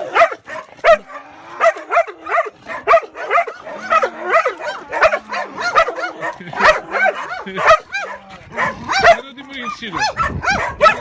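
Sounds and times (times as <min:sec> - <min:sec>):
dog growling: 0:00.0 - 0:09.2.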